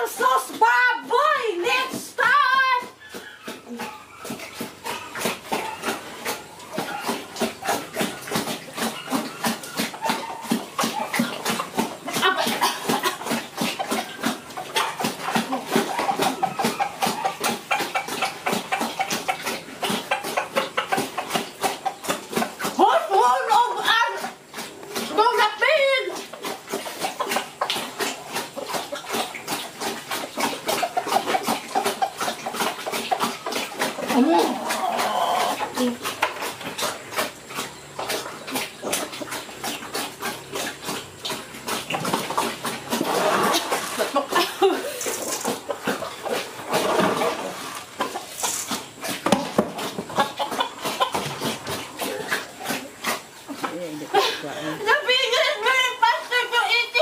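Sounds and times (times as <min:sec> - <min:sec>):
animal eating noisily: 0:02.7 - 0:57.0
wet slurping and smacking: 0:02.9 - 0:53.9.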